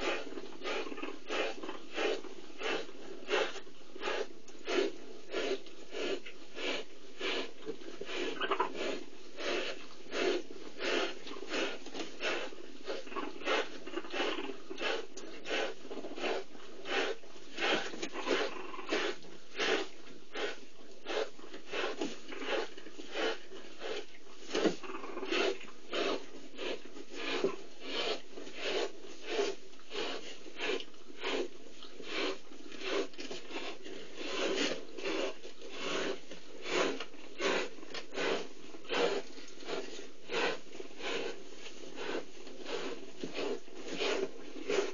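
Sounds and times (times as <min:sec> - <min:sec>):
cheetahs purring: 0:00.0 - 0:41.4.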